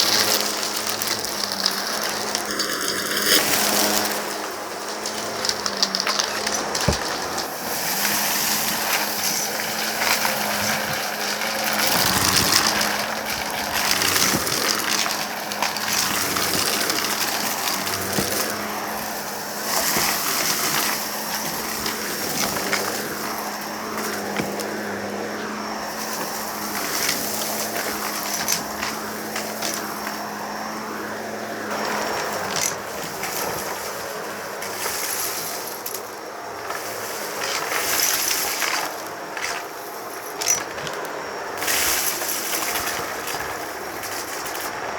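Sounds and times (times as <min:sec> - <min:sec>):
debris clicking and rattling: 0:00.0 - 0:44.9
vacuum cleaner motor hum: 0:00.0 - 0:44.9.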